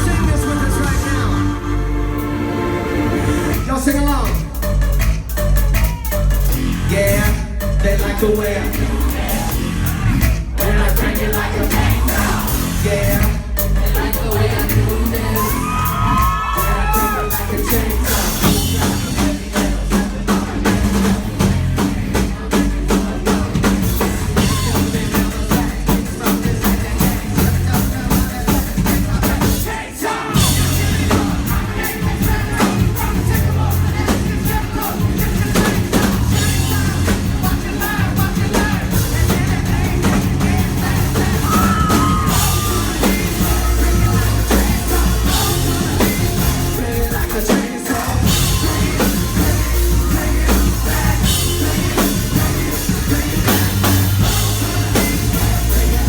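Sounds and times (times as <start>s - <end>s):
drum kit: 0.0s - 56.0s
rock band playing loudly: 0.0s - 56.0s.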